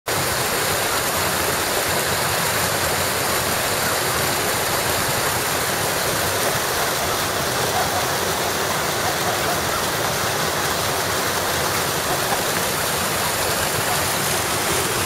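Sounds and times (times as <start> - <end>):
stormwater rushing: 0.1 - 15.0.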